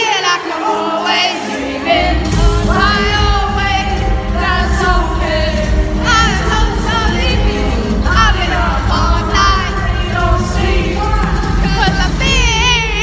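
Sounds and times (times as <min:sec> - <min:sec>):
person singing: 0:00.0 - 0:13.0
bass and drums: 0:02.0 - 0:13.0.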